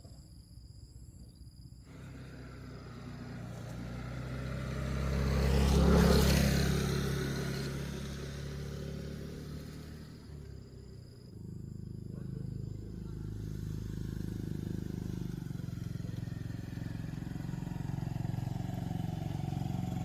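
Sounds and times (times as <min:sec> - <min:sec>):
vehicle driving past: 0:01.9 - 0:20.0.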